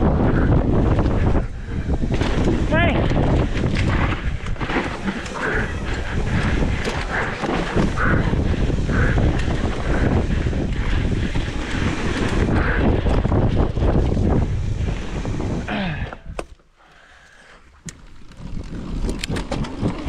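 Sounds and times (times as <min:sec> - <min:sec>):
wind buffeting microphone: 0:00.0 - 0:16.4
rumble of bike tyres: 0:00.0 - 0:20.0.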